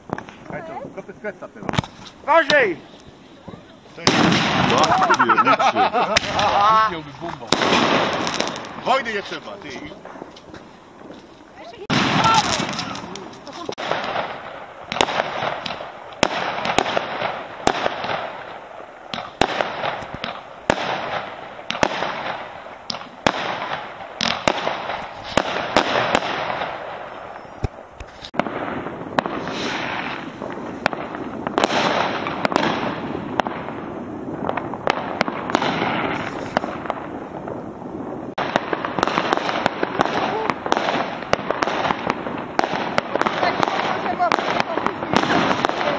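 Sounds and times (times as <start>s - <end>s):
firework bangs: 0.0s - 45.9s
firework crackle: 0.0s - 45.9s.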